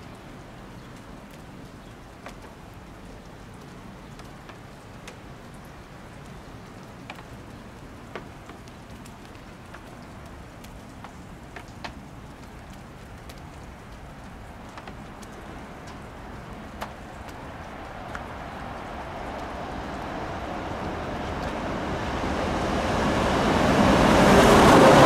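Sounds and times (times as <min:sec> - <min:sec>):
raindrops ticking on a surface: 0:00.0 - 0:25.0
steady rain falling: 0:00.0 - 0:25.0.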